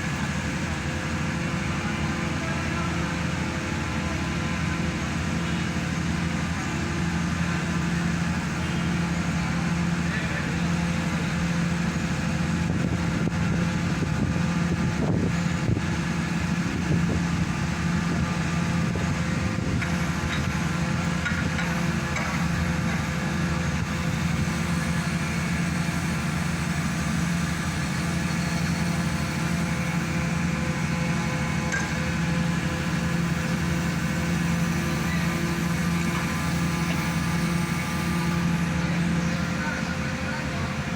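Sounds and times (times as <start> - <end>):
hydraulic machine humming: 0.0 - 40.9.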